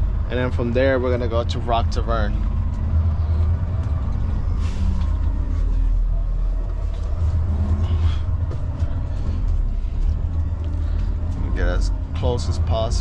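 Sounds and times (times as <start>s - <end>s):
truck diesel engine rumbling: 0.0s - 13.0s.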